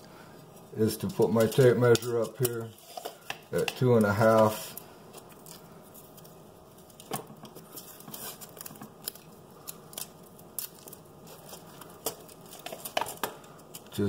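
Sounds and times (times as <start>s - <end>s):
quiet background hiss: 0.0s - 14.0s.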